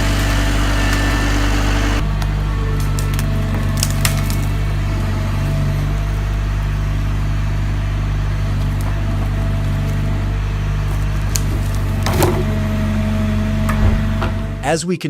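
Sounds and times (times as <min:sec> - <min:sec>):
wood cracking: 0:00.0 - 0:14.6
harvester engine running: 0:00.0 - 0:14.9.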